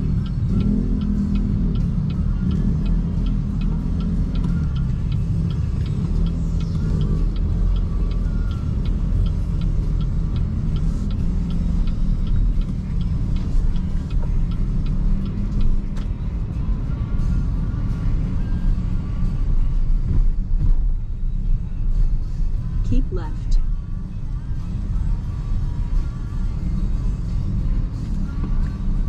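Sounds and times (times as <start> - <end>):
road and tyre rumble: 0.0 - 29.0
turn signal ticking: 0.0 - 29.0.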